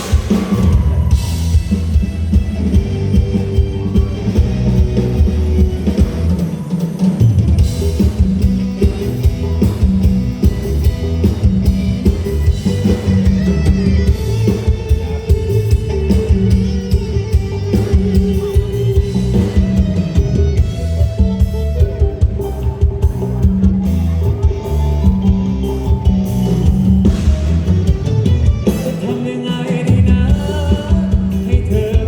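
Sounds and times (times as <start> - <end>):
bass drum and snare beat: 0.0 - 6.5, 7.2 - 32.0
live band playing through speakers: 0.0 - 32.0.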